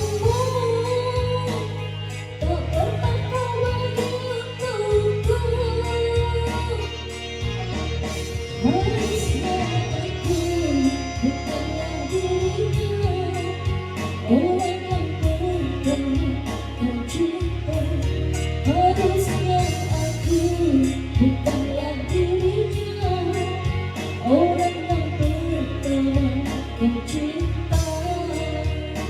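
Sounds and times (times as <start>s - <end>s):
backing music with guitar and beat: 0.0s - 29.0s
woman singing: 0.0s - 29.0s.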